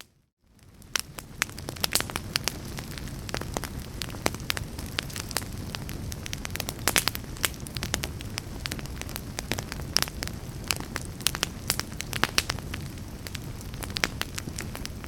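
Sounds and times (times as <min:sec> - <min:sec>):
low rumble of flames: 0:00.4 - 0:15.0
wood fire crackling and popping: 0:00.5 - 0:15.0.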